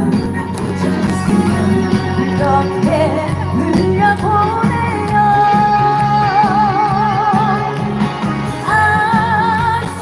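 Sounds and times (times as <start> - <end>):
backing track with steady beat: 0.0 - 10.0
woman singing with vibrato: 0.0 - 10.0.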